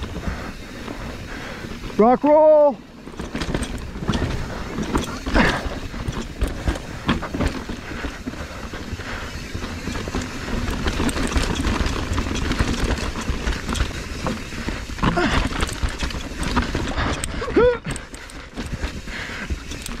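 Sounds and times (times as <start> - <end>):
bike clattering and rattling: 0.0 - 20.0
bike tyres rumbling over stones: 0.0 - 20.0.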